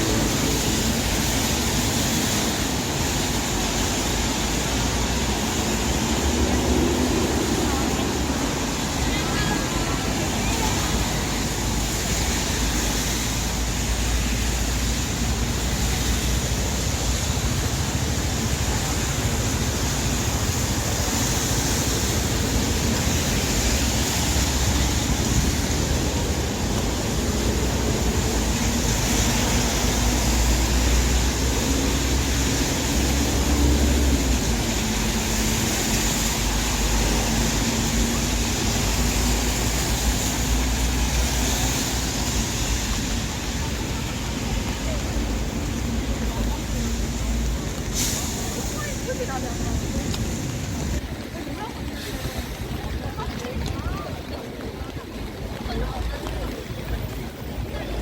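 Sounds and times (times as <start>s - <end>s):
traffic: 0.0s - 58.0s
wet road hiss: 0.0s - 58.0s.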